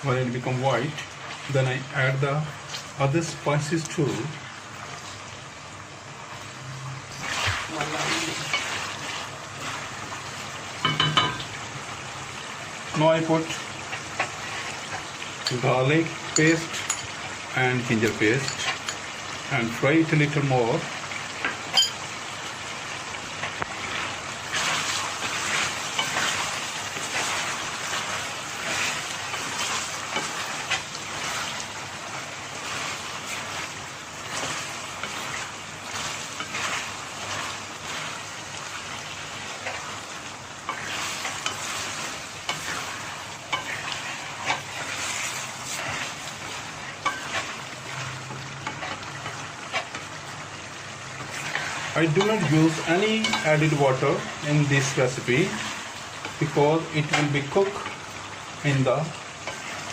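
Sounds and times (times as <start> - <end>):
food sizzling in hot oil: 0.0 - 59.9.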